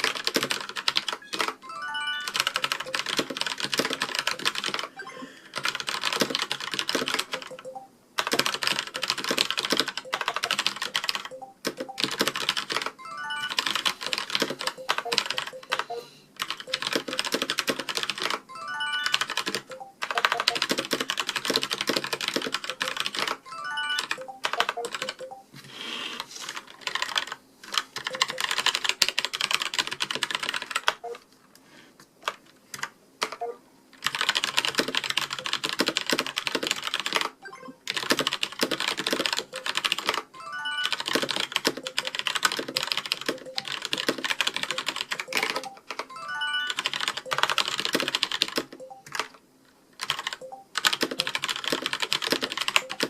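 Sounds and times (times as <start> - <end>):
mechanical keyboard typing: 0.0 - 25.4, 26.5 - 31.1, 32.2 - 49.4, 50.0 - 53.0.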